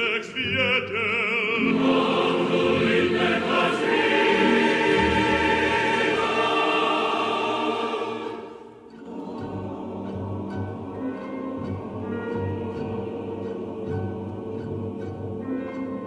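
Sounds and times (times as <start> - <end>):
choir singing: 0.0 - 16.0
orchestral music: 0.0 - 16.0.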